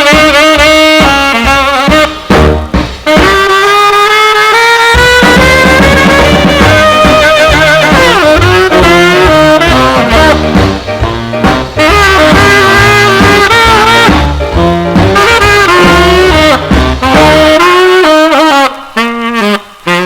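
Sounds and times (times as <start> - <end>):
bass and rhythm section: 0.0 - 19.1
horn lead with sliding notes: 0.0 - 20.0.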